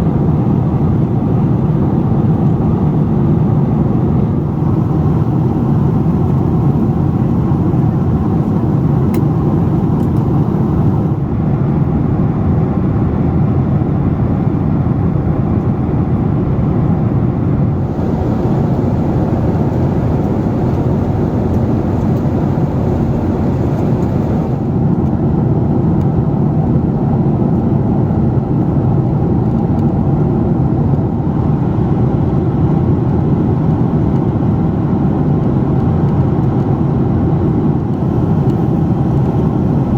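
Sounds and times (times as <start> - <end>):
jet engine noise in cabin: 0.0 - 39.9.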